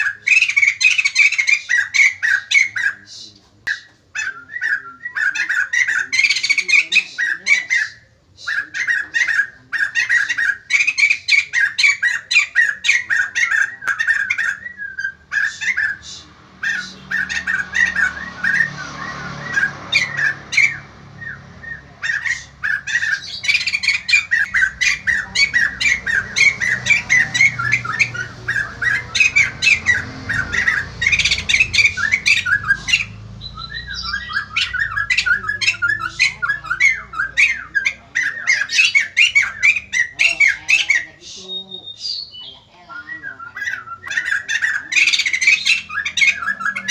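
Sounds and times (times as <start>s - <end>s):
bird chattering calls: 0.0s - 46.9s.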